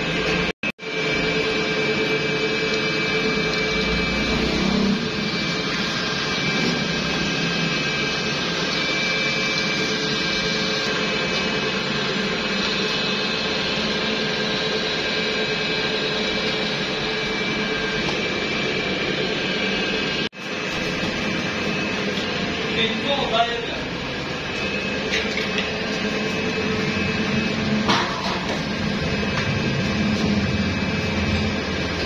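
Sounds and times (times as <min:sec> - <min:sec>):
machine drone: 0:00.0 - 0:32.0
whining machine tones: 0:00.0 - 0:32.0.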